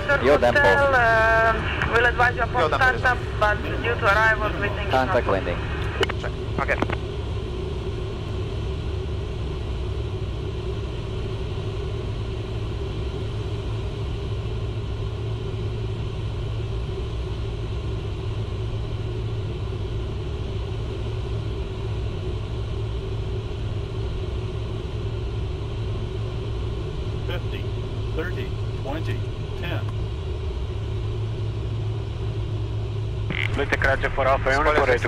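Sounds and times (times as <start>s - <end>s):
cockpit airflow and engine rumble: 0.0s - 35.0s
constant low drone: 0.0s - 35.0s.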